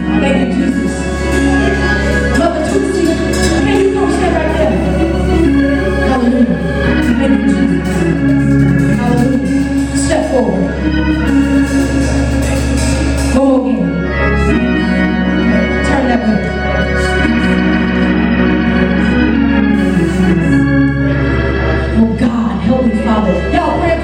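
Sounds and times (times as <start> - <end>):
organ playing sustained chords: 0.0 - 24.0.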